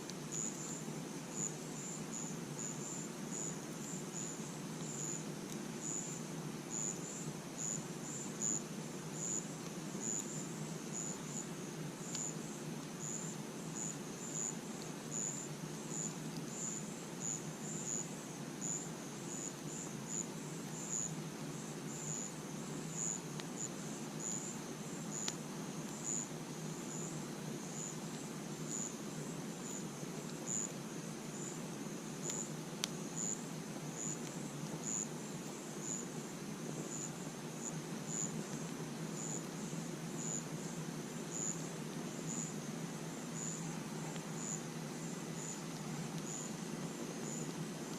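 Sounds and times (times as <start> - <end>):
campfire crackles: 0.0 - 47.9
crickets chirping: 0.0 - 47.9.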